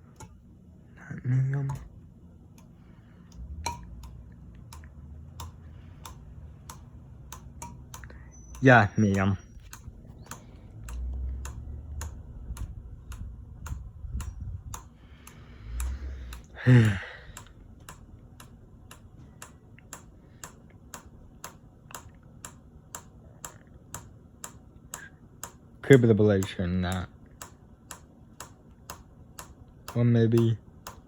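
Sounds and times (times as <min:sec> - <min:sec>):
fan blade clicking: 0:00.0 - 0:00.4, 0:01.5 - 0:31.0
ceiling fan humming: 0:00.0 - 0:31.0.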